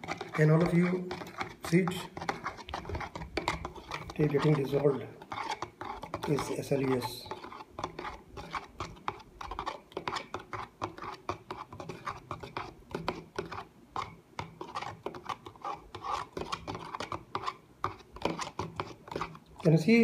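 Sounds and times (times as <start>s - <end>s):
spoon stirring in plastic cup: 0.0s - 20.0s.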